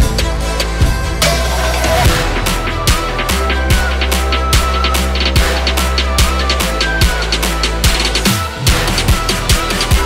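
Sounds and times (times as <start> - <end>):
music with heavy beat: 0.0 - 10.0.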